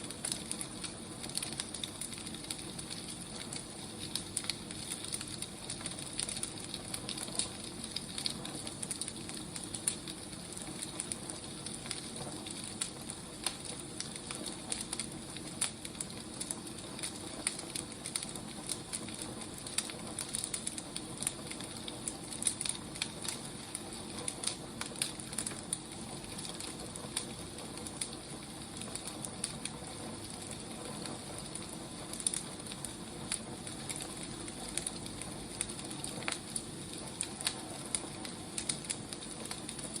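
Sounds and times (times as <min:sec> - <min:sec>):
firewood burning with crackles: 0:00.0 - 0:40.0.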